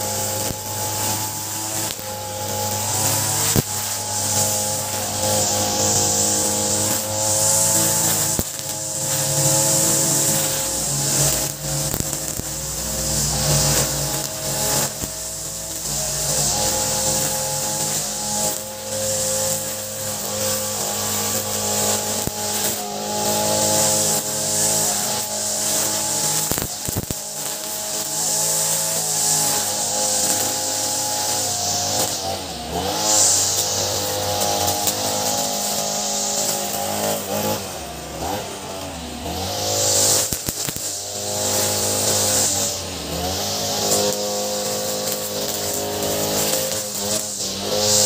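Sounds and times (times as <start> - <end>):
brush cutter engine running: 0.0 - 48.0
trimmer line hissing: 0.0 - 48.0.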